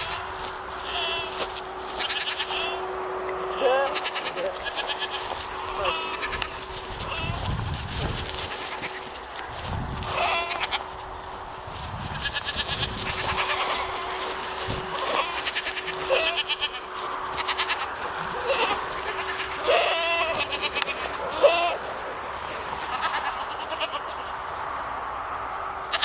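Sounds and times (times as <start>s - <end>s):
quavering bleat-like animal cries: 0.0s - 7.7s, 10.0s - 11.0s, 12.1s - 24.4s.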